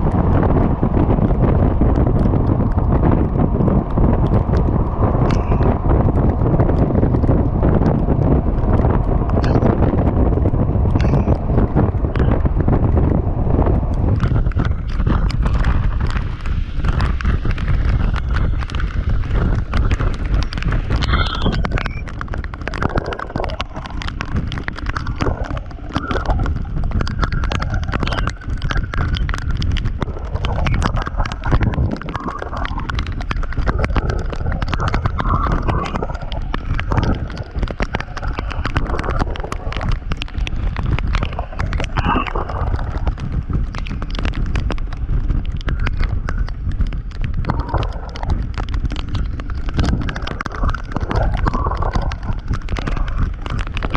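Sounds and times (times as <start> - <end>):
crackling wind buffets: 0.0 - 53.9
wind and road rumble: 0.0 - 53.9.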